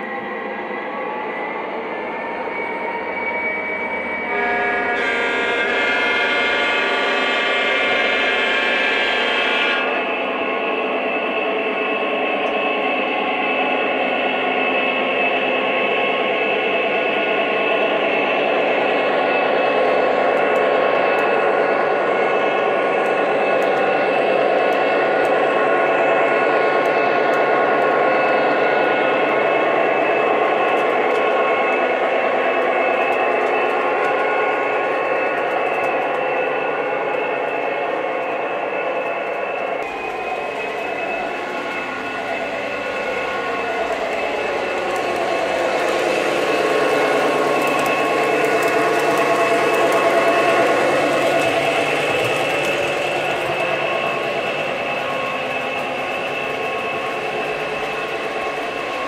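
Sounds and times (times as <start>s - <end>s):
model train wheels on rails: 0.0s - 59.0s.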